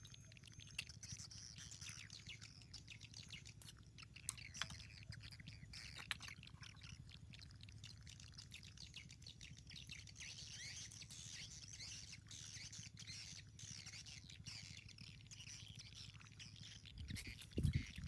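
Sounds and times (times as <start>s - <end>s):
low steady hum: 0.0s - 18.0s
small birds chirping: 0.0s - 18.0s.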